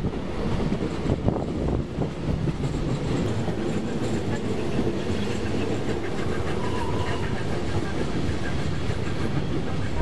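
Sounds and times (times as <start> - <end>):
railway carriage rumbling: 0.0 - 10.0.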